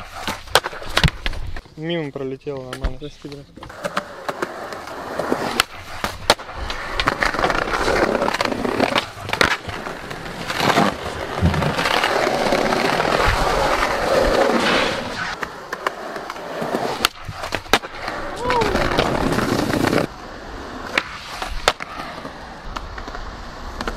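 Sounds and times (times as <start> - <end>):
skateboard clacking on concrete: 0.0 - 1.6, 3.6 - 20.1, 20.9 - 23.9
skateboard wheels rolling: 0.0 - 23.9.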